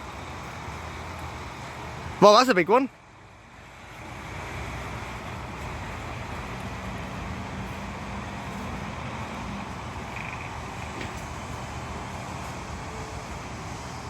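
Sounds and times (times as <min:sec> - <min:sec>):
engine hum: 0:00.0 - 0:14.0
vehicle traffic: 0:00.0 - 0:14.0.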